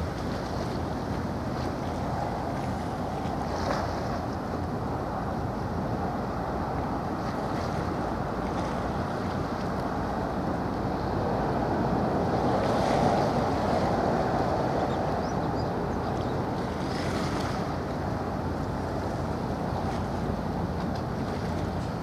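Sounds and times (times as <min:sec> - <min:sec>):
choppy water washing: 0:00.0 - 0:22.0
wind buffeting microphone: 0:00.0 - 0:22.0.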